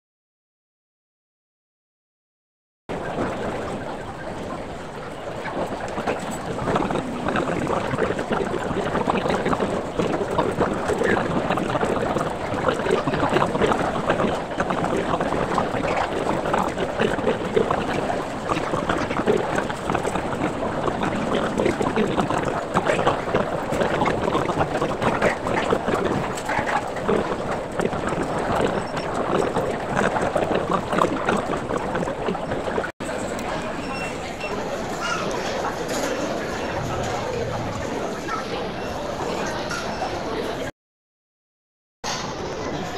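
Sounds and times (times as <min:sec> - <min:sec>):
garbled restaurant voices: 0:02.9 - 0:40.7, 0:42.1 - 0:42.9.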